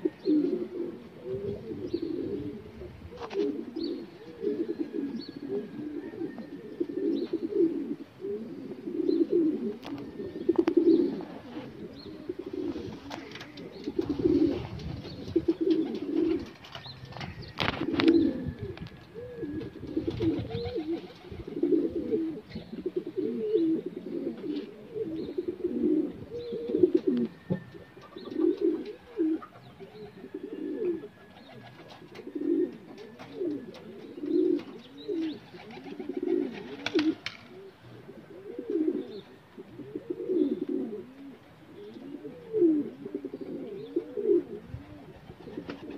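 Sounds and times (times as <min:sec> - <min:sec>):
pigeons cooing: 0:00.0 - 0:45.9.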